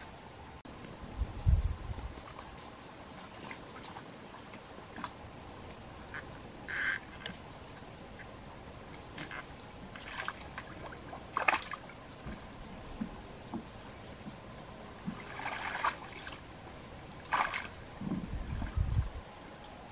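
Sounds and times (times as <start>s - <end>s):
high insect drone: 0.0s - 19.9s
water splashing and trickling: 0.7s - 19.9s.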